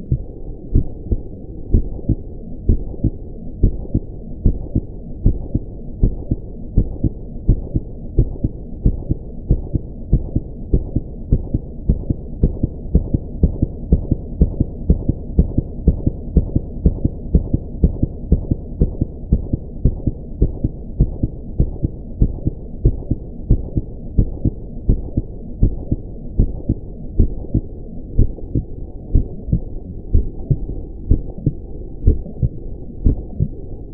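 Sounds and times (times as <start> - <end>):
continuous low hum: 0.0 - 33.9
heartbeat: 0.0 - 33.9.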